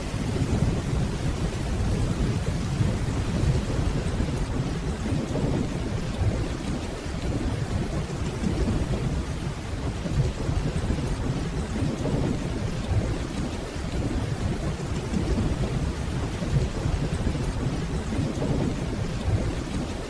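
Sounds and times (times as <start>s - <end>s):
distant thunder rumbling: 0.0s - 20.0s
steady rainfall: 0.0s - 20.0s.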